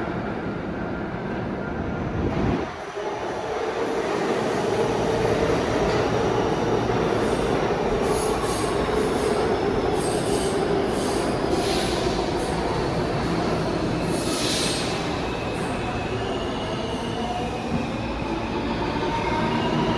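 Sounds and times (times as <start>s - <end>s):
subway train rumbling on rails: 0.0s - 19.9s.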